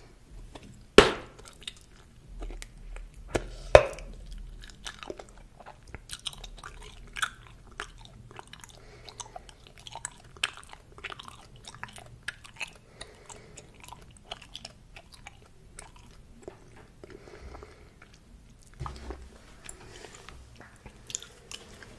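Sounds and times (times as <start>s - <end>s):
gum chewing mouth clicks: 1.3s - 21.9s.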